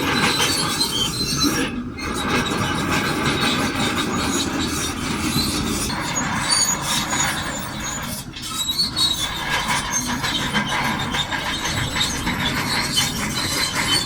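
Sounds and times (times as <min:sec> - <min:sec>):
bulldozer engine running: 0:00.0 - 0:14.0
steel tracks clattering: 0:00.0 - 0:14.0.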